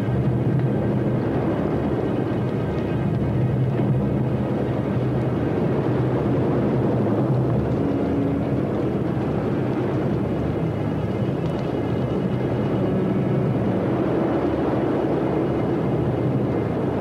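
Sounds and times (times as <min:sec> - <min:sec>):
gas and steam venting roar: 0:00.0 - 0:17.0.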